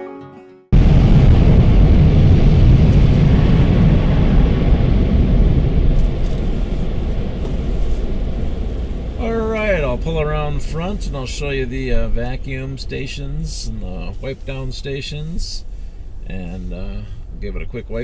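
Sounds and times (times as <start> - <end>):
car wash air dryers blowing: 2.6 - 18.0.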